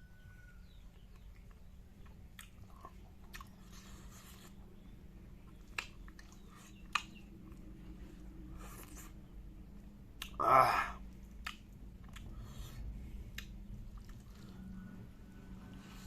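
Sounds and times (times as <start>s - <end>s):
person chewing food: 0.6s - 16.0s.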